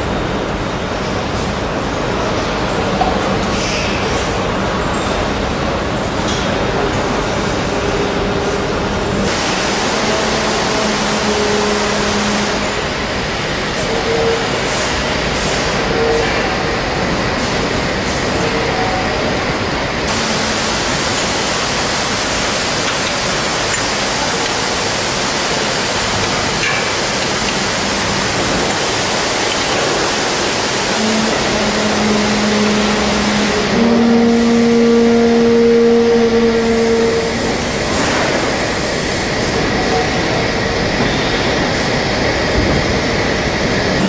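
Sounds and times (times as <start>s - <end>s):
factory machinery din: 0.0s - 44.0s.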